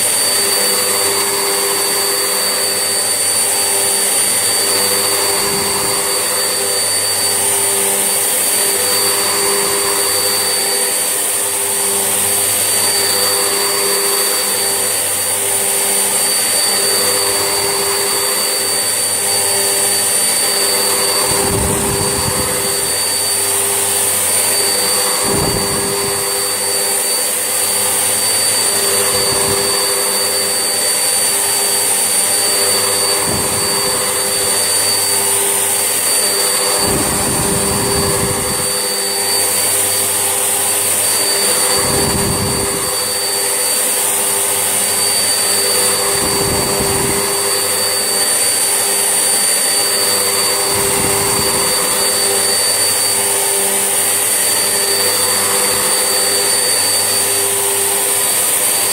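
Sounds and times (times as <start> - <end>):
vacuum cleaner whining: 0.0 - 58.9.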